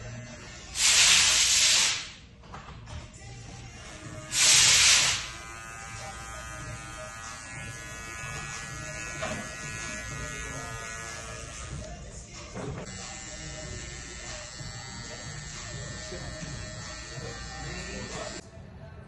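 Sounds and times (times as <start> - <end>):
electric hair clippers buzzing: 0.0 - 2.0, 3.6 - 12.0, 12.8 - 18.4.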